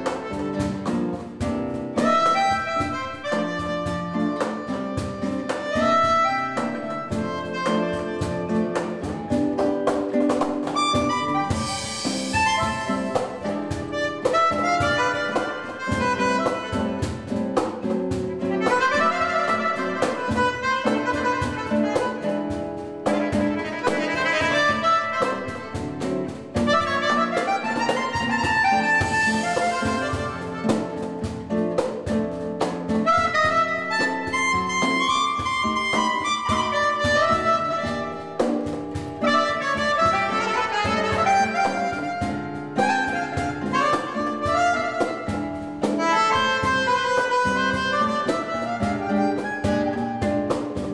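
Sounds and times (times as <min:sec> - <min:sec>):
acoustic guitar chords: 0:00.0 - 0:50.9
light percussion: 0:00.0 - 0:50.9
reed wind instrument melody: 0:00.0 - 0:50.9.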